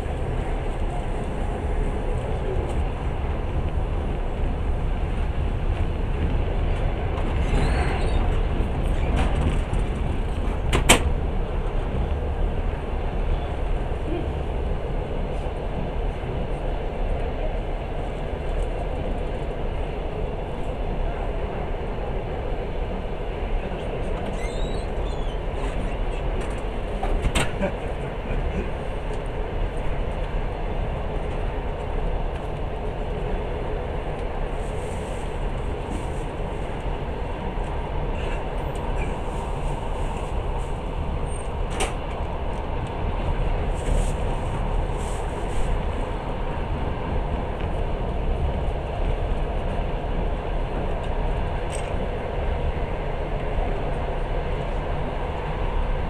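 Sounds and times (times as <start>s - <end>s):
train carriage running noise: 0.0s - 56.0s.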